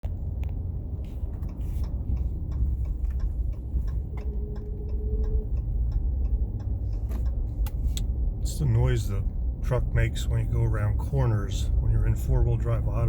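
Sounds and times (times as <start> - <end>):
light clicks and ticks: 0.0 - 10.8
road and driveline rumble: 0.0 - 13.0.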